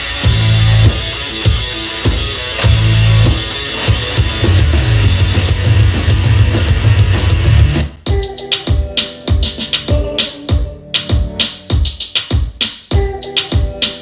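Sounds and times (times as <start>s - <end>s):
rock music with heavy drums: 0.0s - 13.9s
choppy stop-start beats: 0.0s - 14.0s.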